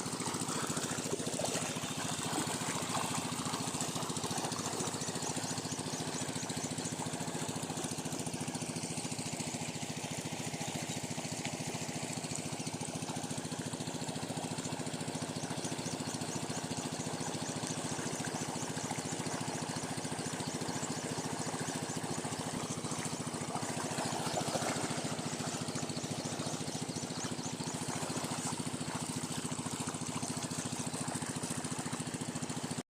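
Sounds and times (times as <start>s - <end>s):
diesel water pump engine running: 0.0s - 32.8s.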